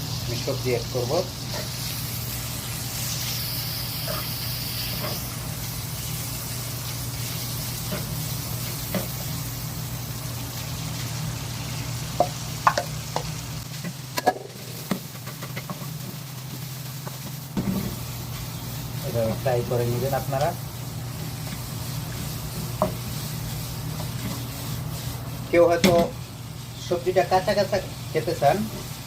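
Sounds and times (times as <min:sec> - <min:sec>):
food sizzling in a hot pan: 0:00.0 - 0:29.0.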